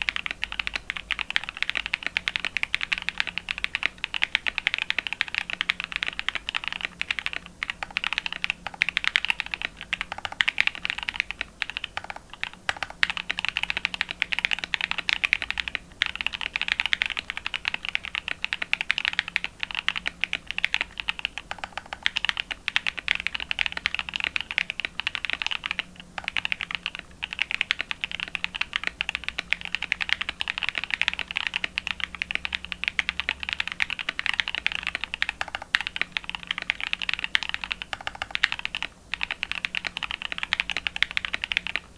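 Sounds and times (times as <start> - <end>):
fast typing on mechanical keyboard: 0.0 - 41.9.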